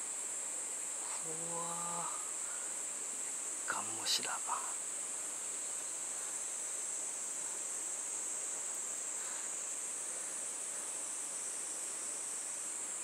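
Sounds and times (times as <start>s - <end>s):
faint outdoor hiss: 0.0s - 13.0s
insects shrilling: 0.0s - 13.0s.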